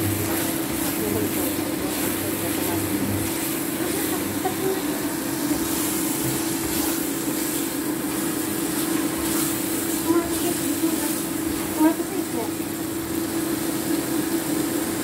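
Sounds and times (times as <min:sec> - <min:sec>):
spatula stirring in pan: 0:00.0 - 0:12.8
paste sizzling in oil: 0:00.0 - 0:14.8.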